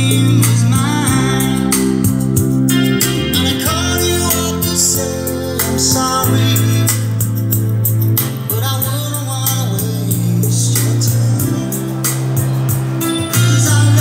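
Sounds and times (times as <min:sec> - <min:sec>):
person singing: 0:00.0 - 0:07.3, 0:08.4 - 0:14.0
guitar playing: 0:00.0 - 0:14.0
held bass notes: 0:00.0 - 0:14.0.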